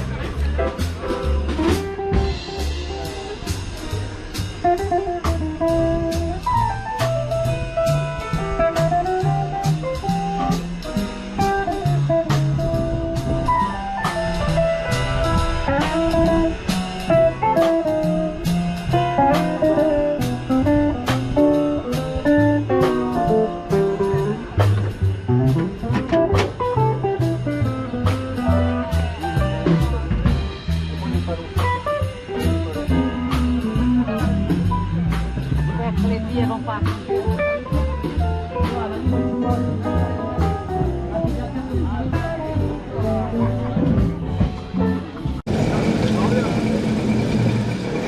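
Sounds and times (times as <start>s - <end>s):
blues jazz tune: 0.0s - 48.0s.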